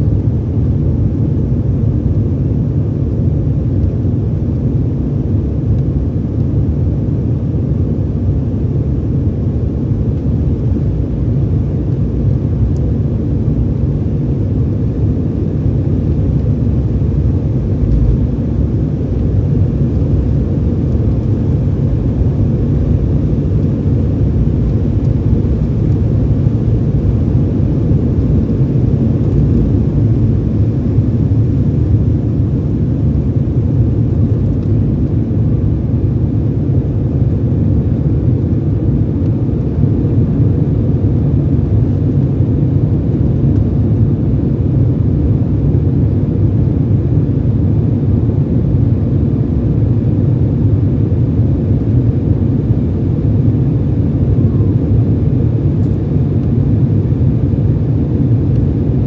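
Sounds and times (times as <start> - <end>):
jet engines at takeoff power: 0.0 - 59.0.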